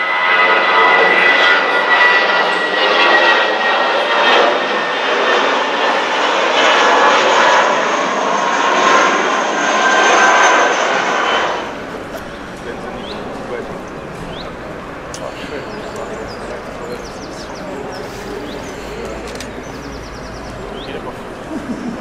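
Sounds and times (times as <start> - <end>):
jet engines roaring with whine: 0.0 - 22.0.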